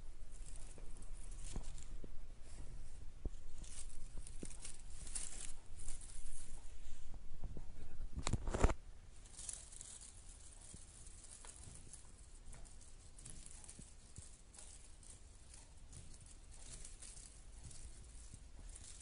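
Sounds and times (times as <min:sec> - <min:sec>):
rustling on fabric: 0:00.0 - 0:19.0.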